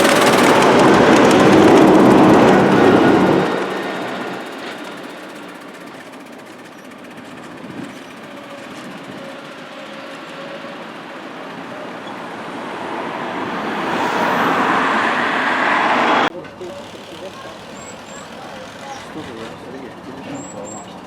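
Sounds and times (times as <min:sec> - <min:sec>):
miniature train running: 0:00.0 - 0:14.8, 0:16.3 - 0:21.0.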